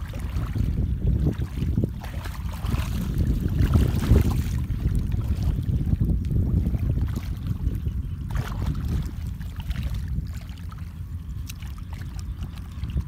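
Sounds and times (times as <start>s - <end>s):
water sloshing around wading legs: 0.0s - 13.0s
wind buffeting the microphone: 0.0s - 13.0s.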